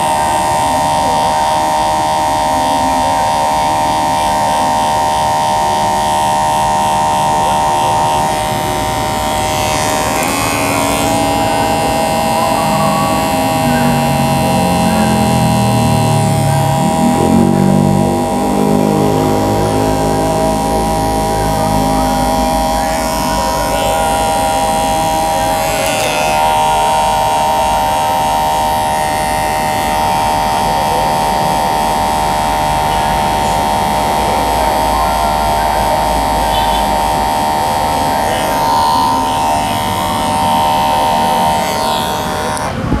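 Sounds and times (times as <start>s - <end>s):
electric hair clipper buzzing: 0.0s - 43.0s.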